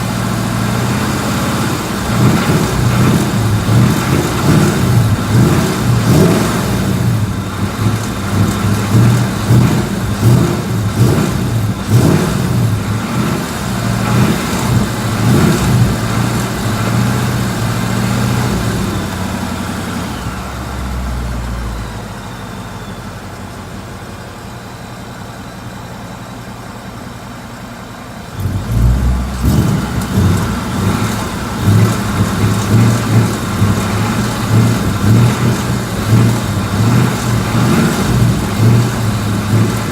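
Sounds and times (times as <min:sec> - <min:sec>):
car engine revving: 0:00.0 - 0:23.4, 0:28.3 - 0:39.9
car engine idling: 0:00.0 - 0:39.9.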